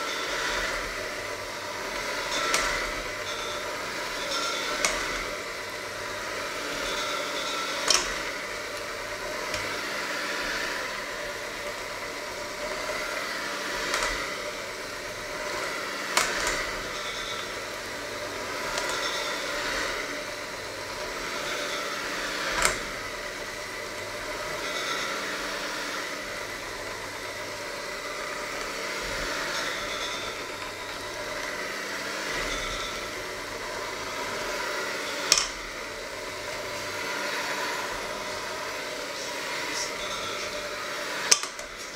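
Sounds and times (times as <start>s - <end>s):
electric hand mixer running: 0.0s - 41.9s.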